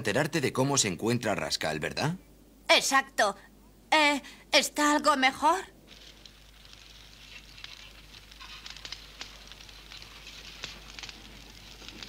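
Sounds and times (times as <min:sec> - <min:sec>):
fireplace fire crackling: 0:00.0 - 0:12.0
low hiss: 0:00.0 - 0:12.0.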